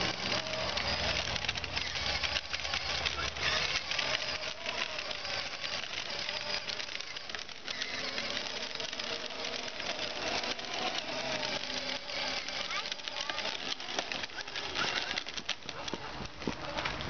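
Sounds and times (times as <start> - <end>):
toy electric motor whining: 0.0 - 17.0
wheels rattling on asphalt: 0.0 - 17.0.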